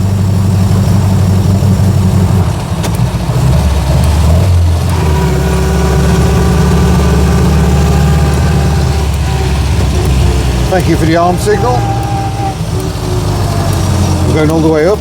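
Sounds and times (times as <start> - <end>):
small car engine running: 0.0 - 15.0.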